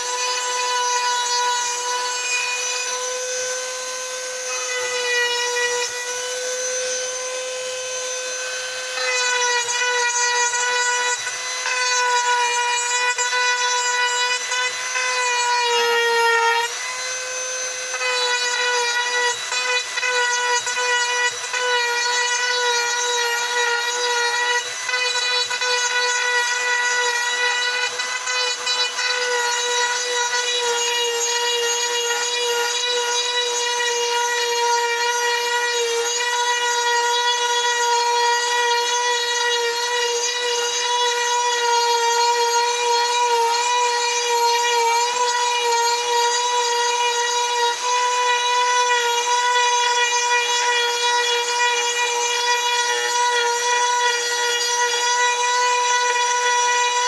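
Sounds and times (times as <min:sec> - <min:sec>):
power carving tool whining: 0:00.0 - 0:57.0.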